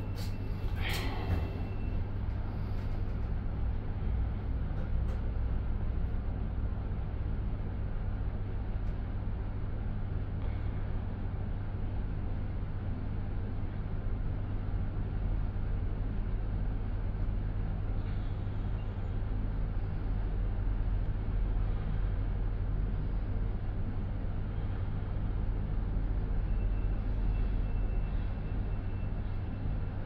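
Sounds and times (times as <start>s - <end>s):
lift hum and rumble: 0.0s - 30.0s.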